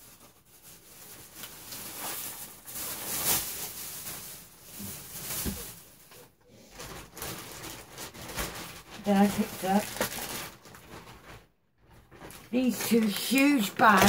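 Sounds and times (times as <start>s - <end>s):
bags rustling: 0.0s - 14.0s.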